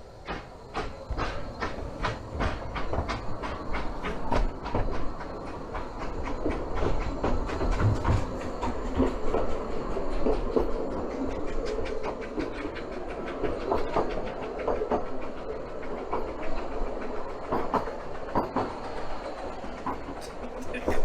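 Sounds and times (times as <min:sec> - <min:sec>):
wheels clicking over rail joints: 0:00.0 - 0:21.0
wheels on rails: 0:00.0 - 0:21.0.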